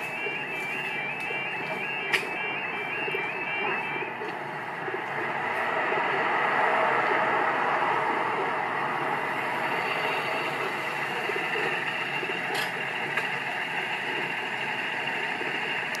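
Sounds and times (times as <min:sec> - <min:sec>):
constant rushing noise: 0:00.0 - 0:16.0
level crossing warning alarm: 0:00.0 - 0:16.0.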